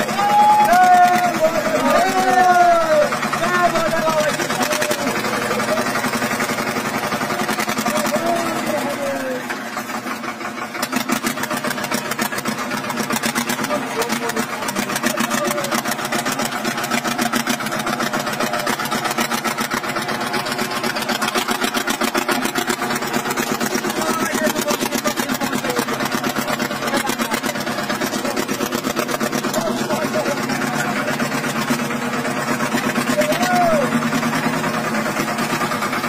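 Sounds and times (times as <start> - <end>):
men calling out: 0.0 - 10.2, 11.6 - 36.0
tractor diesel engine under load: 0.0 - 36.0.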